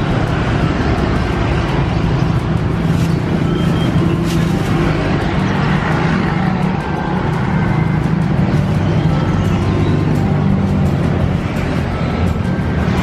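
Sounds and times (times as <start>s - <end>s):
low engine drone: 0.0s - 13.0s
road traffic noise: 0.0s - 13.0s.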